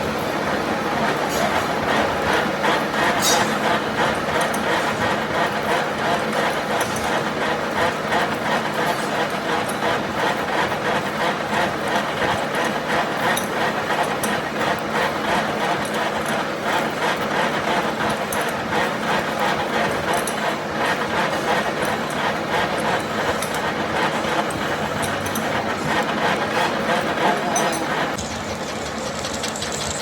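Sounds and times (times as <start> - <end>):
workshop machine running: 0.0 - 30.0.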